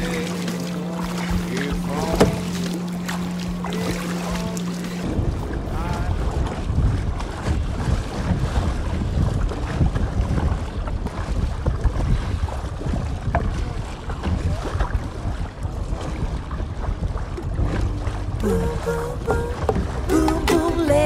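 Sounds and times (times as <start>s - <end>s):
water splashing against hull: 0.0s - 21.0s
wind buffeting microphone: 1.0s - 20.8s.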